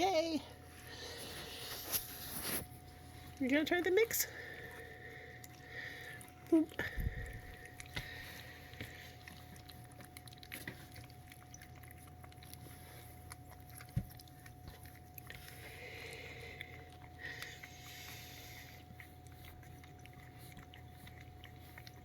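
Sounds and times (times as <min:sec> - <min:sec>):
faint steady hum: 0:00.0 - 0:22.0
puppies eating wet food: 0:00.0 - 0:22.0
wet licking and smacking: 0:00.6 - 0:22.0.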